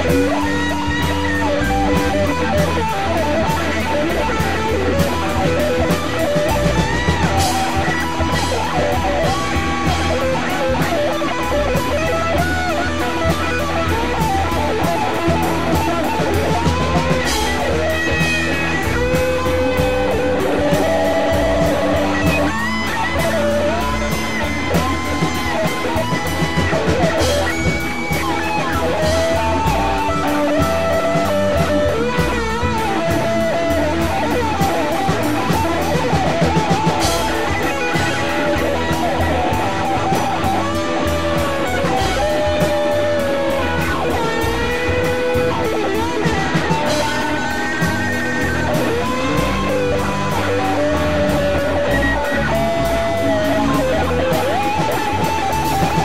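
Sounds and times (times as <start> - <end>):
bass guitar: 0.0 - 56.0
drum kit beat: 0.0 - 56.0
electric guitar lead: 0.0 - 56.0.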